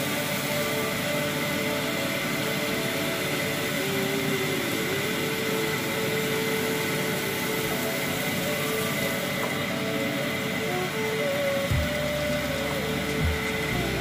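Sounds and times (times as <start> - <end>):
stove hissing: 0.0 - 14.0.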